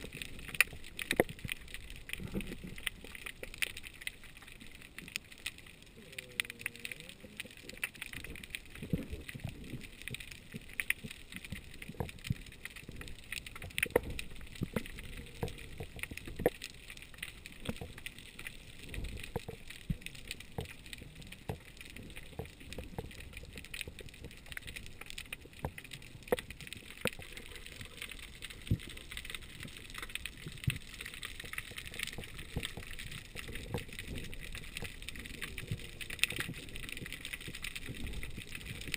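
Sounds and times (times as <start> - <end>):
sharp underwater clicks and knocks: 0.0 - 5.8, 7.4 - 38.9
muffled underwater hiss: 0.0 - 38.9.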